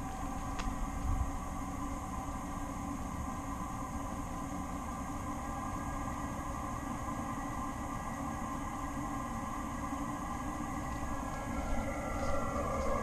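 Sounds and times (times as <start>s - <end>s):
air heater humming: 0.0s - 13.0s.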